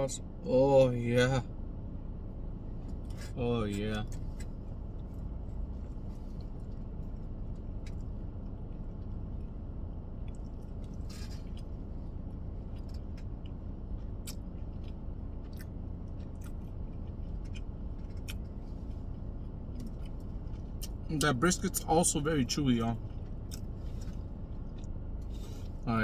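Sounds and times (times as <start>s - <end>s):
car interior rumble: 0.0s - 26.0s
person chewing: 4.0s - 25.8s.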